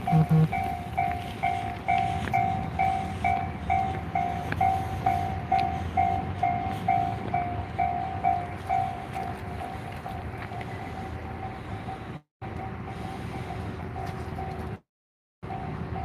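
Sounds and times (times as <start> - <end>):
level-crossing warning bell: 0.0 - 14.8, 15.4 - 16.0
passing train rumble: 0.0 - 14.8, 15.4 - 16.0.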